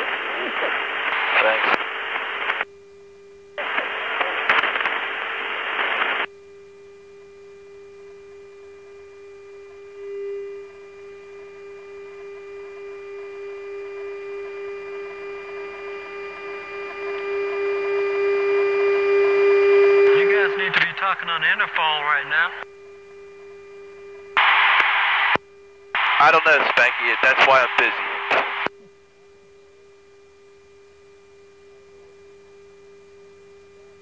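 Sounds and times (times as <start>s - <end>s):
open microphone hiss: 0.0s - 31.8s
steady electrical hum: 0.0s - 34.0s.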